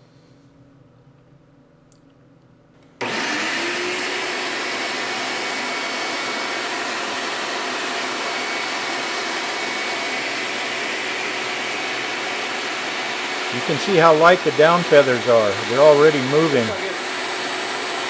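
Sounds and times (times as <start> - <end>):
shop vacuum motor whine: 3.0 - 18.0.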